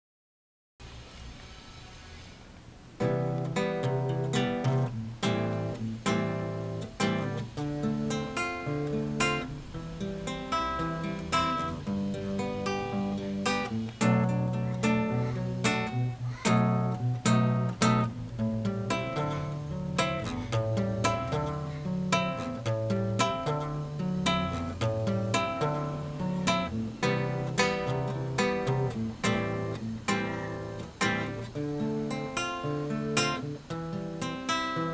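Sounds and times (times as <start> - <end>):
acoustic guitar playing: 0.9 - 34.9.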